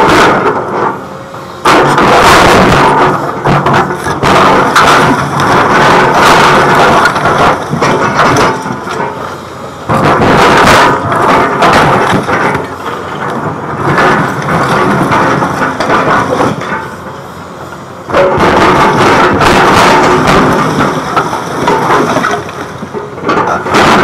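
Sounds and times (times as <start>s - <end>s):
diesel engine running: 0.0s - 24.0s
excavator bucket scraping concrete rubble: 0.0s - 24.0s.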